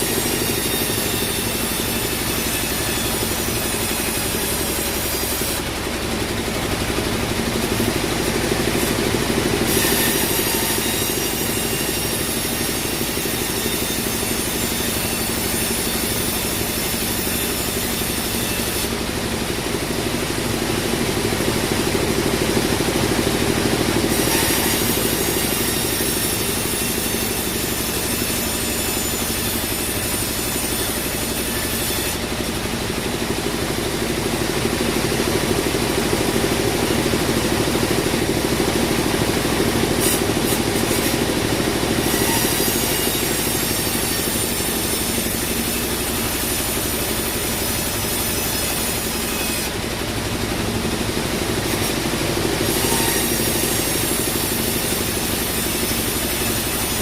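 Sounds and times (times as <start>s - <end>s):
saw blade hiss: 0.0s - 57.0s
sawmill motor drone: 0.0s - 57.0s.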